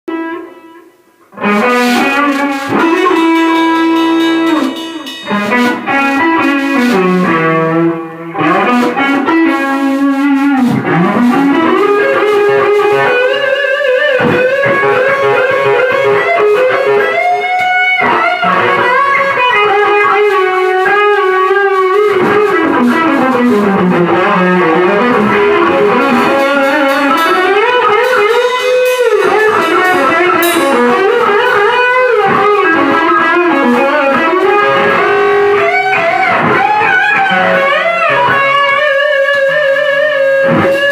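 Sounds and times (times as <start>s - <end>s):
electric guitar lead melody: 0.1s - 40.9s.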